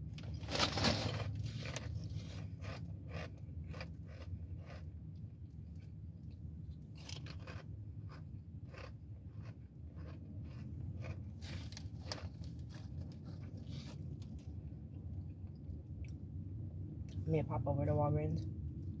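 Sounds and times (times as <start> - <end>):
steady low hum: 0.0 - 19.0
person chewing crunchy chips: 0.3 - 16.2.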